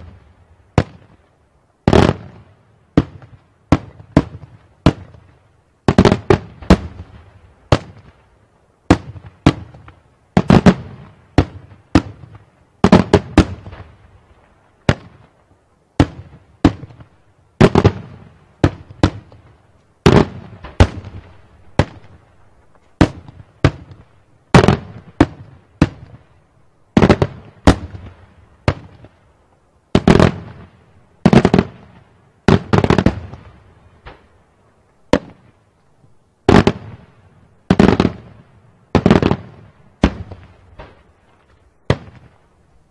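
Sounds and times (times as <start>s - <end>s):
fireworks bursting with echo: 0.0s - 29.3s, 29.9s - 34.4s, 35.1s - 35.6s, 36.4s - 42.9s.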